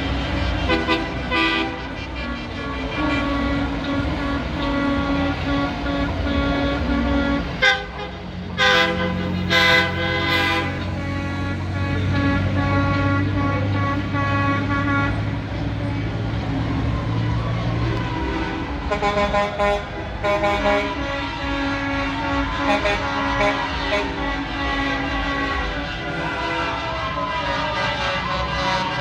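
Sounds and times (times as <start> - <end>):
truck engines running: 0.0 - 29.0
truck horns honking: 0.0 - 29.0.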